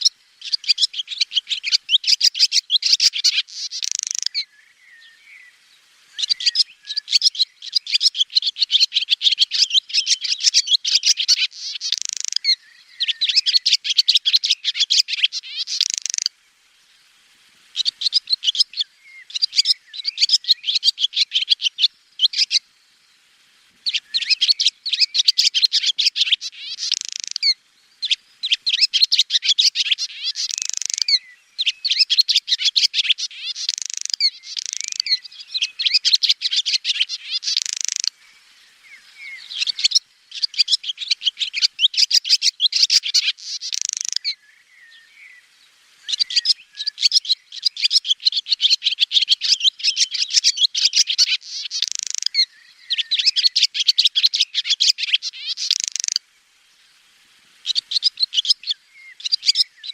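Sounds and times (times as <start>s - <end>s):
swallow twittering: 0.0s - 5.5s, 6.1s - 16.3s, 17.8s - 22.6s, 23.8s - 56.2s, 57.6s - 59.9s.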